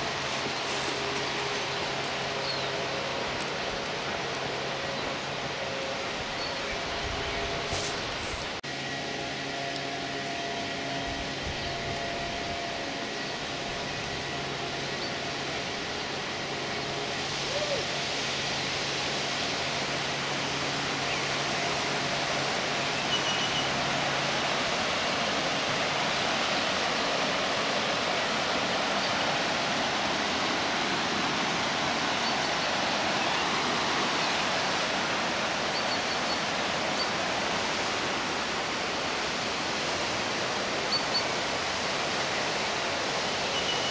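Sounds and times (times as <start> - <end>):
river rushing over rapids: 0.0 - 8.6, 9.6 - 43.9.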